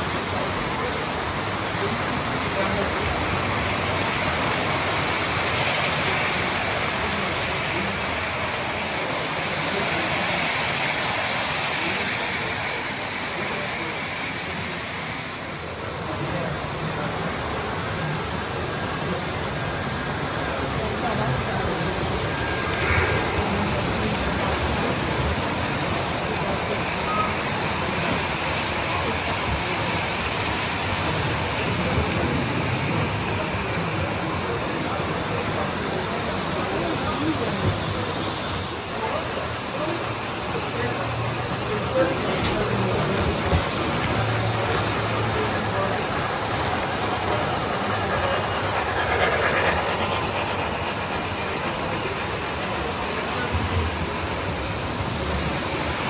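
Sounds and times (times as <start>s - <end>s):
model train wheels on rails: 0.0s - 56.0s.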